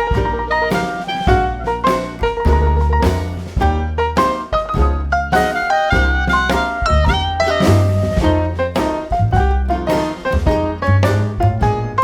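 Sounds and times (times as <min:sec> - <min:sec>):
bass line: 0:00.0 - 0:12.0
jazz piano: 0:00.0 - 0:12.0.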